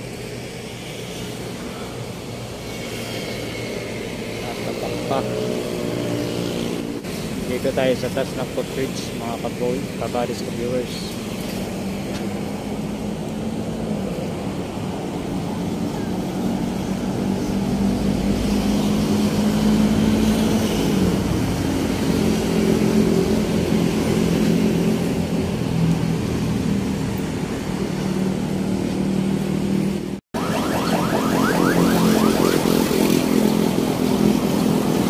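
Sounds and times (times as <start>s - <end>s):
passing vehicle engines humming: 0.1s - 35.0s.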